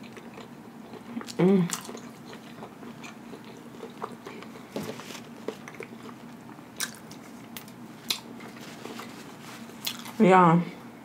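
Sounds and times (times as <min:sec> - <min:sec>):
close-miked chewing: 0:00.0 - 0:10.2.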